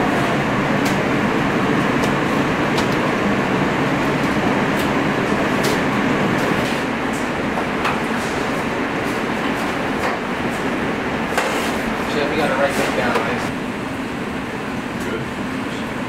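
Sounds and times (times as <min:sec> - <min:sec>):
kitchen ventilation running: 0:00.0 - 0:16.0.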